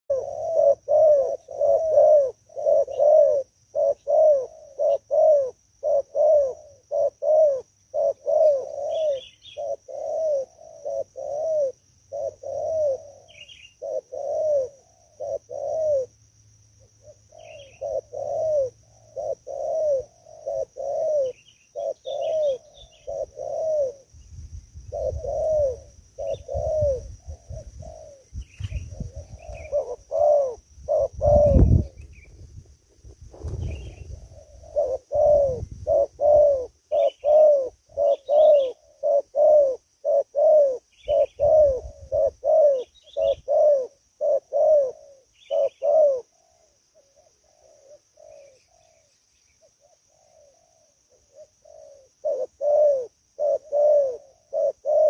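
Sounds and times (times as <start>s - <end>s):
dove cooing: 0.1s - 24.2s, 24.8s - 55.0s
faint high bird chirps: 0.1s - 32.7s, 33.3s - 55.0s
faint high hiss: 0.1s - 55.0s.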